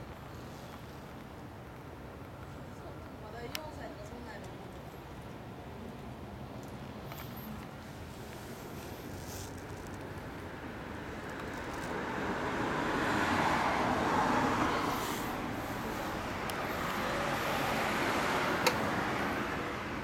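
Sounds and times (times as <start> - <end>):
vehicles passing: 3.9 - 20.0.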